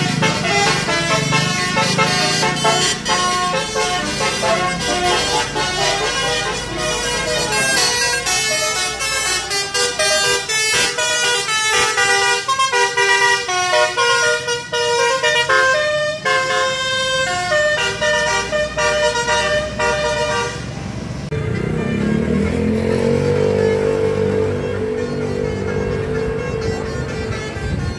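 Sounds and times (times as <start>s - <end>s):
bus air horn playing a tune: 0.0s - 20.7s, 21.3s - 27.9s.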